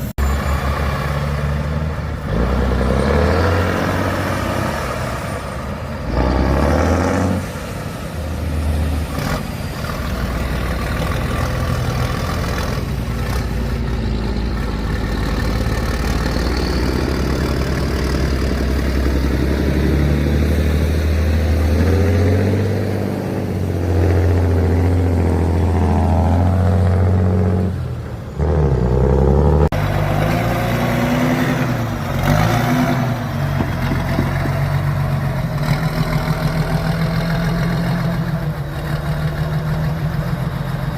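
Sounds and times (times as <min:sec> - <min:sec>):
heavy truck engine revving: 0:00.0 - 0:40.9.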